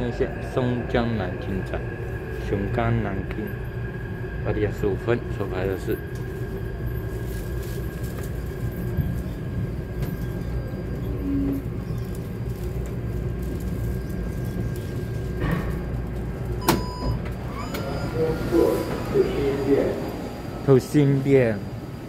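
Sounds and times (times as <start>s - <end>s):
train interior low rumble: 0.0s - 22.0s.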